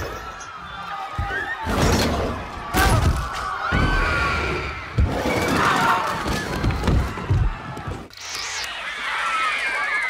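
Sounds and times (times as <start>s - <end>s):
crowd commotion: 0.0s - 10.0s.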